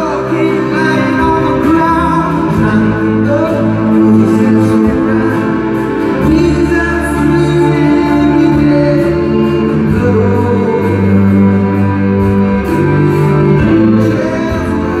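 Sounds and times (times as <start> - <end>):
acoustic guitar: 0.0 - 15.0
orchestral strings: 0.0 - 15.0
piano: 0.0 - 15.0.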